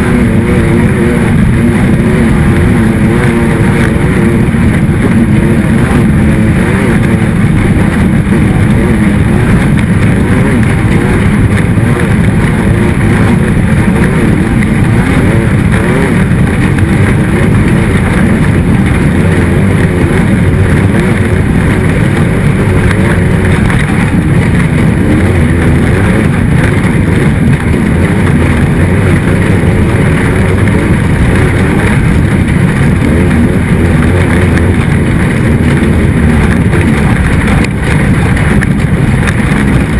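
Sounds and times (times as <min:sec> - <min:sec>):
racing engine running hard: 0:00.0 - 0:39.9.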